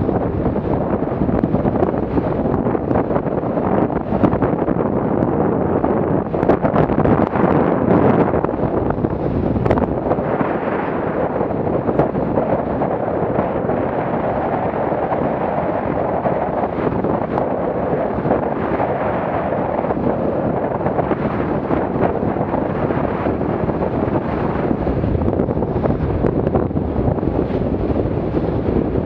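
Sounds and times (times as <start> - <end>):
water rushing along boat hull: 0.0 - 29.0
wind buffeting microphone: 0.0 - 29.0.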